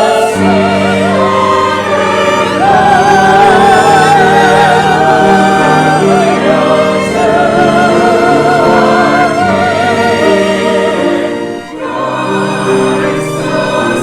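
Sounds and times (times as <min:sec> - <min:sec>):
singing voice with wide vibrato: 0:00.0 - 0:14.0
sustained orchestral chords: 0:00.0 - 0:14.0.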